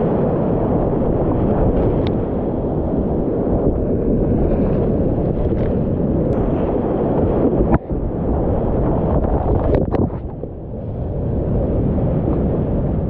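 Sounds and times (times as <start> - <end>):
water spray buffeting microphone: 0.0 - 13.0.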